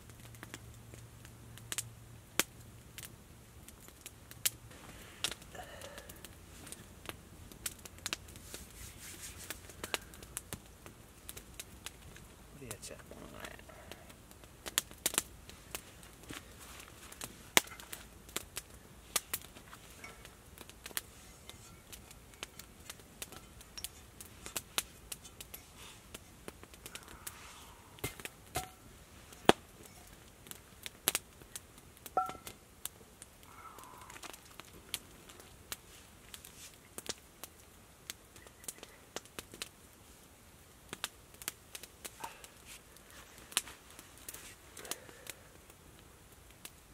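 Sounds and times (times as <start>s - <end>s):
campfire crackling: 0.0s - 46.9s
fire popping and snapping: 0.0s - 46.9s.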